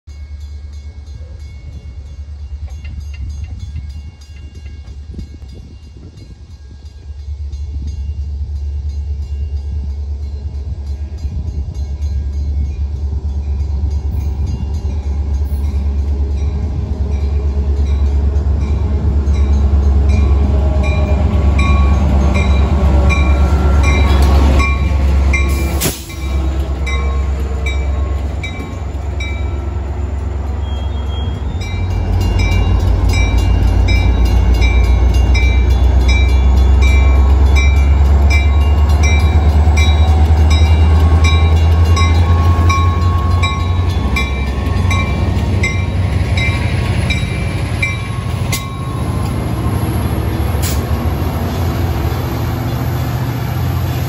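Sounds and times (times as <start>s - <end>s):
diesel locomotive engine rumbling: 0.0s - 54.0s
crossing bell ringing: 0.1s - 54.0s.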